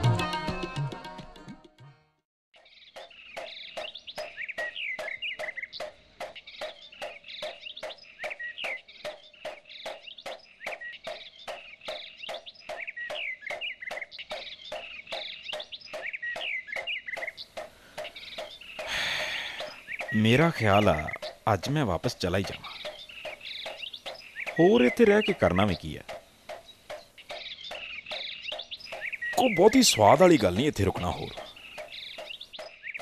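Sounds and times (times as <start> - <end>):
birds chirping: 2.6 - 33.0.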